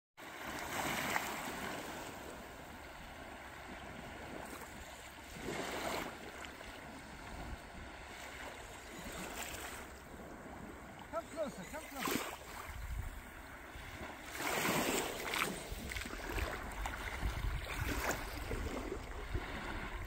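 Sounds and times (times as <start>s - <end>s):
small waves washing on shore: 0.2s - 20.0s
wind: 0.2s - 20.0s.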